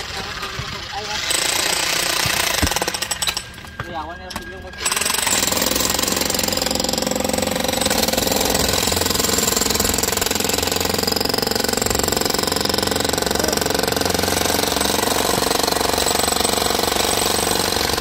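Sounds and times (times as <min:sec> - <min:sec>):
jackhammers hammering concrete: 0:00.0 - 0:18.0.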